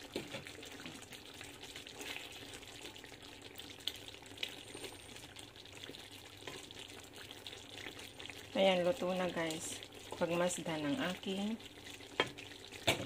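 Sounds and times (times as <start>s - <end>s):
sauce bubbling and sizzling: 0.0s - 13.0s.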